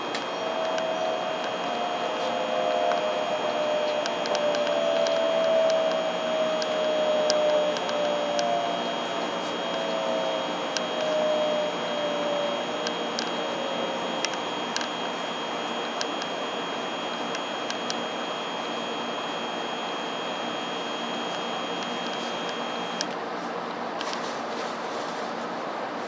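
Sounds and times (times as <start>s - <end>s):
train motor whine: 0.0s - 23.1s.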